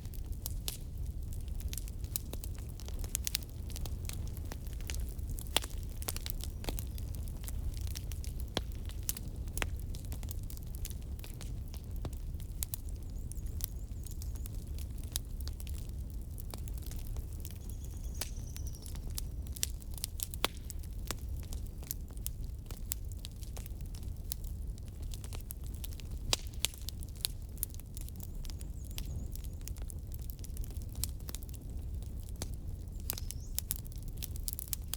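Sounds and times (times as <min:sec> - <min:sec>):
logs crackling and popping: 0:00.0 - 0:34.9
wood fire rumbling: 0:00.0 - 0:34.9.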